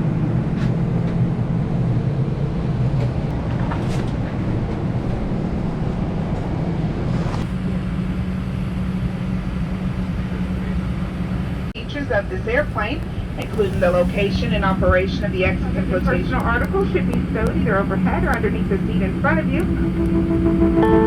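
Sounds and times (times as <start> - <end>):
airplane cabin hum: 0.0 - 21.0.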